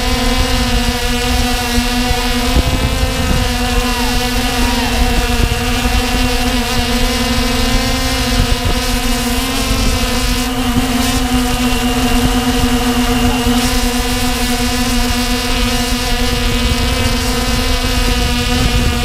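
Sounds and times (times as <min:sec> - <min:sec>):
drone propellers whining: 0:00.0 - 0:19.0
prop wash buffeting microphone: 0:00.0 - 0:19.0.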